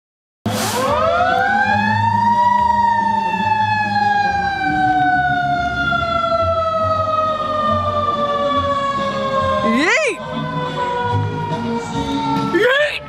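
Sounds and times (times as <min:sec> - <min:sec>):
fire truck siren wailing: 0:00.5 - 0:13.0.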